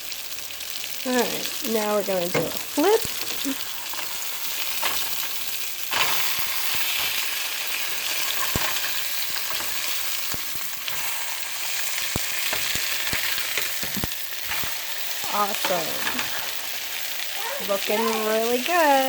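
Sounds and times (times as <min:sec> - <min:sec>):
steak sizzling in hot oil: 0:00.0 - 0:19.0.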